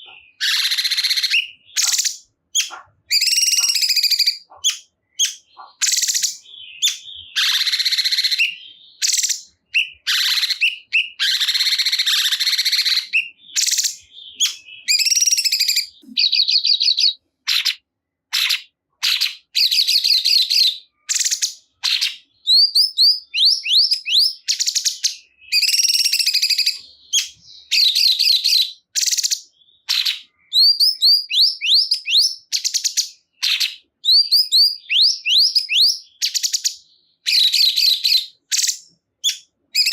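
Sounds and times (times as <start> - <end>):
songbird chattering and whistling: 0.0 - 39.9.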